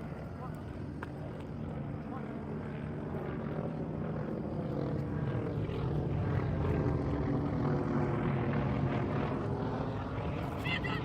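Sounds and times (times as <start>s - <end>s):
aircraft engine droning overhead: 0.0s - 11.0s.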